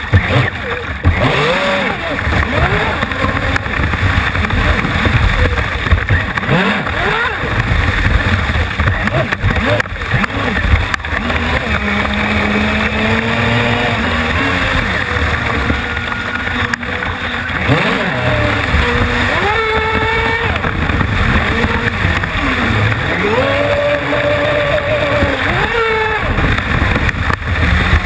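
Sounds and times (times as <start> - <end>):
electric motor whining: 0.0 - 28.0
water rushing against hull: 0.0 - 28.0.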